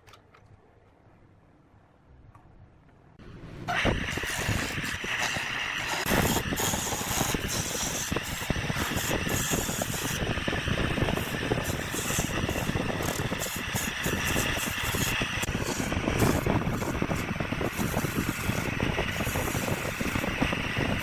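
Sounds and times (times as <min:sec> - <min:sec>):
wood lathe cutting hiss: 0:03.7 - 0:21.0.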